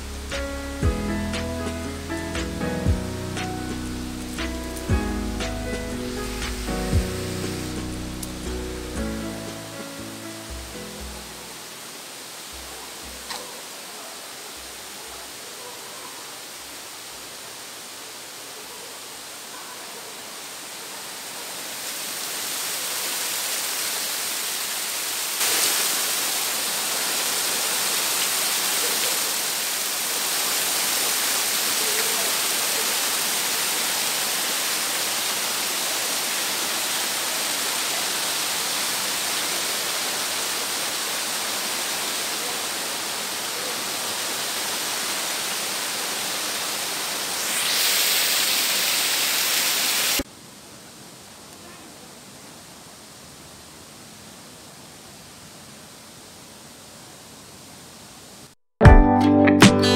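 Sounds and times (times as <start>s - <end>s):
running water hiss: 0.0s - 58.6s.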